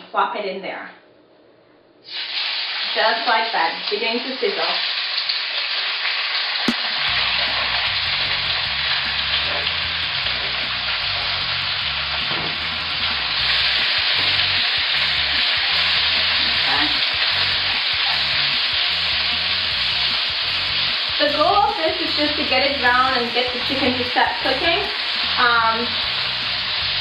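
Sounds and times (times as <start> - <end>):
chicken sizzling in oil: 2.1 - 27.0.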